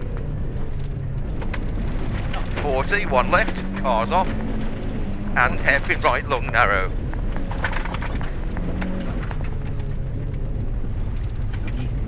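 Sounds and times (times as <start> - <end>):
car engine running at low revs: 0.0 - 12.0
gravel clicking on car underbody: 0.0 - 12.0.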